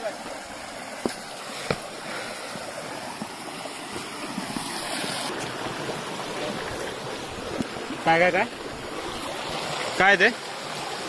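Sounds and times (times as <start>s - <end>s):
waterfall stream rushing: 0.0s - 11.0s.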